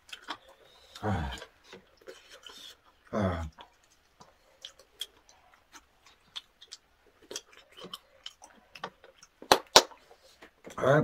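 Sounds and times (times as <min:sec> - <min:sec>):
faint chewing mouth clicks: 0:00.0 - 0:10.8.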